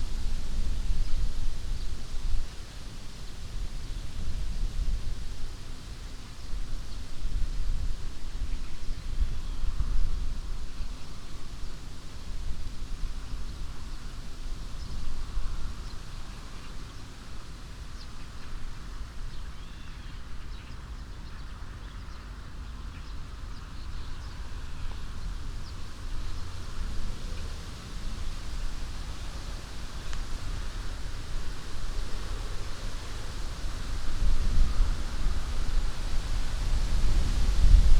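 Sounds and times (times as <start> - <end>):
wind rumble on microphone: 0.0 - 19.6, 20.2 - 37.9
wind rustling leaves: 0.0 - 37.9.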